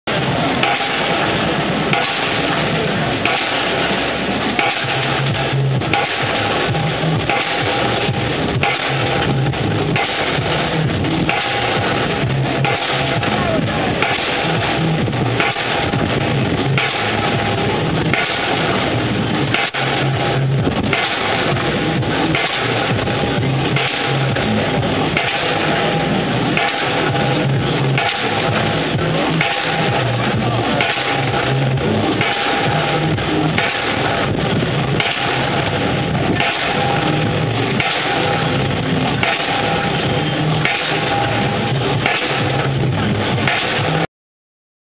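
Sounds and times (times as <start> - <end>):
machinery running: 0.0 - 44.1
pile driver hammer blows: 0.1 - 44.1.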